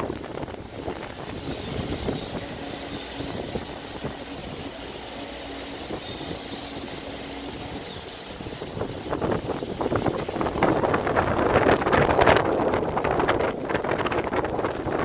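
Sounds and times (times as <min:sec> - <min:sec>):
excavator diesel engine running: 0:00.0 - 0:15.0
faint hydraulic whine: 0:00.0 - 0:15.0.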